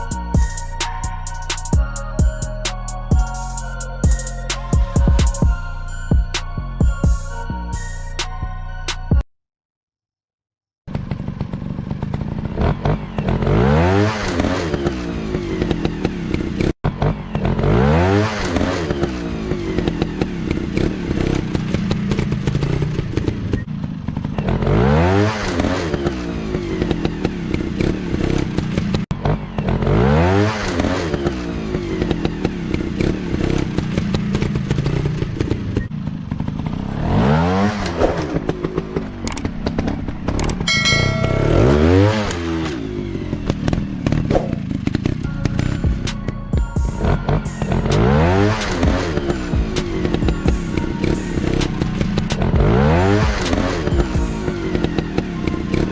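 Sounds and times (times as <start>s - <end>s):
dirt bike engines revving: 10.9s - 55.9s.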